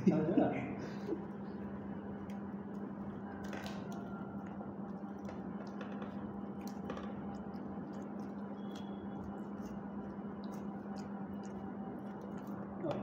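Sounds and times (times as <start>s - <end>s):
steady low hum: 0.0s - 13.0s
people eating with hands: 0.8s - 13.0s.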